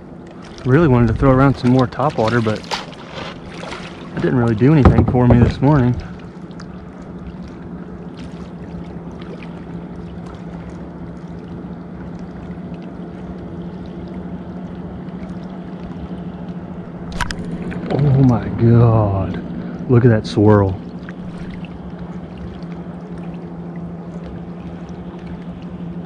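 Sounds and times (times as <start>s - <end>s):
steady low hum: 0.0s - 26.0s
water lapping against kayak hull: 0.0s - 26.0s.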